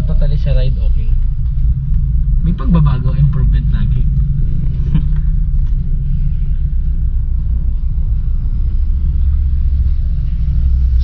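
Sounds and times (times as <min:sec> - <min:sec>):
pickup truck engine: 0:00.0 - 0:11.0
road noise: 0:00.0 - 0:11.0.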